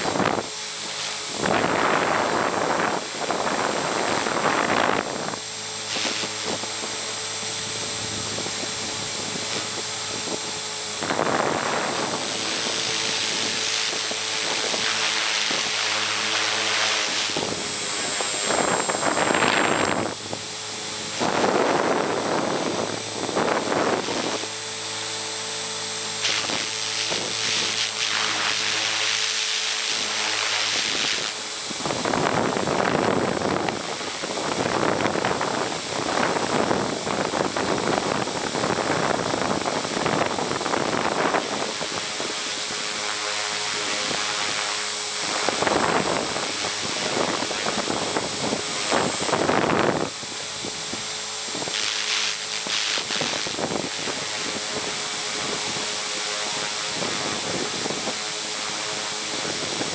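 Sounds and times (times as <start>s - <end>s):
high motor whine: 0.0s - 59.9s
rotor blades rushing: 0.0s - 59.9s.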